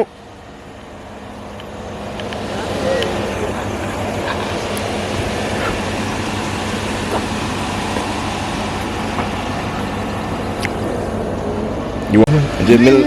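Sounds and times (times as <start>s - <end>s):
outdoor noise: 0.0s - 13.0s
vehicle engine humming: 0.0s - 13.0s.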